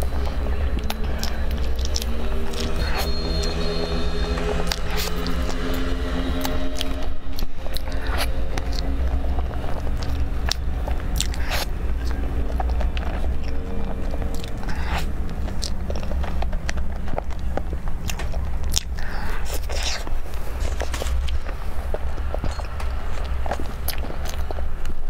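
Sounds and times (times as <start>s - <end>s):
close chewing of soft cake: 0.0s - 25.0s
steady low hum: 0.0s - 25.0s.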